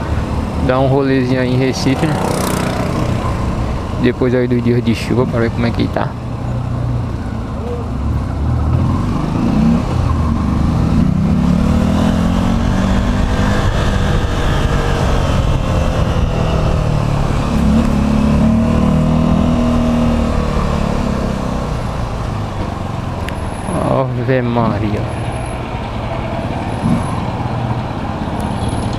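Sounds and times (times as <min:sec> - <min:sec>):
motorcycle engine accelerating: 0:00.0 - 0:04.4, 0:06.4 - 0:23.9, 0:25.0 - 0:28.9
road and wind rumble: 0:00.0 - 0:28.9.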